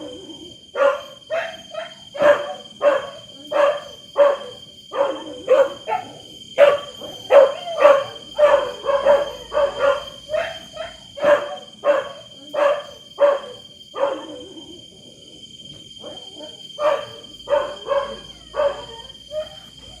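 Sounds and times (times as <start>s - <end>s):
dog barking: 0.0s - 14.6s, 16.0s - 20.0s
high-pitched whine: 0.0s - 20.0s.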